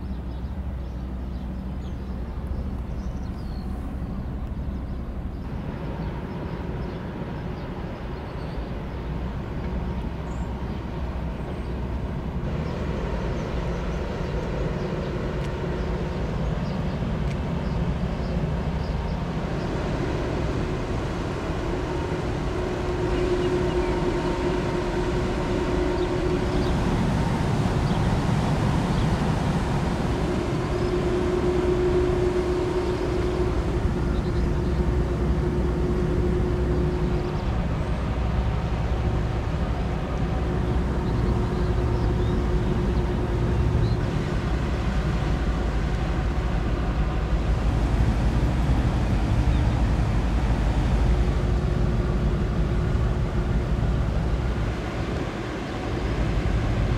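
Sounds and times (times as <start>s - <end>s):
ship engines rumbling: 0.0s - 56.9s.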